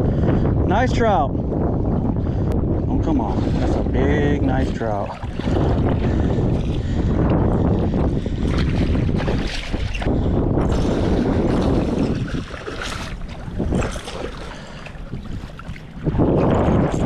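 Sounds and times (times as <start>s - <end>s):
wind buffeting microphone: 0.0s - 17.0s
water lapping: 1.8s - 17.0s.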